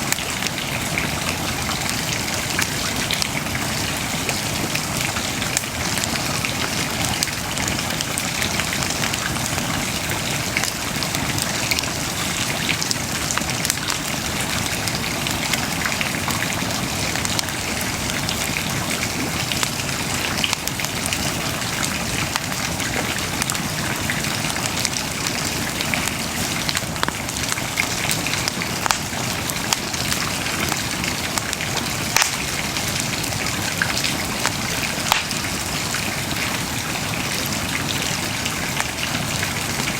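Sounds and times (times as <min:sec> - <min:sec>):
bonfire flames hissing and crackling: 0:00.0 - 0:39.9.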